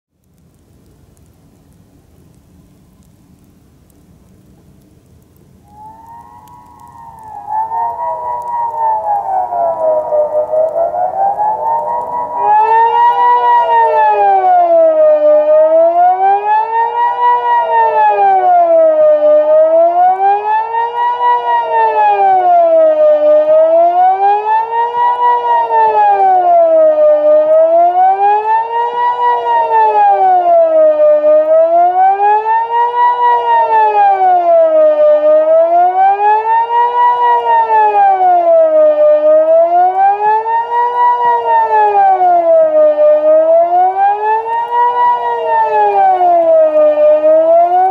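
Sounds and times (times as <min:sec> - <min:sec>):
civil defence siren wailing: 0:05.6 - 0:47.9.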